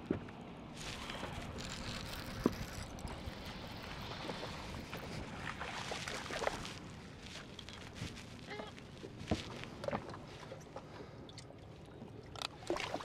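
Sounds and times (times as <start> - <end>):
wind: 0.0 - 13.0
water lapping against hull: 0.8 - 13.0.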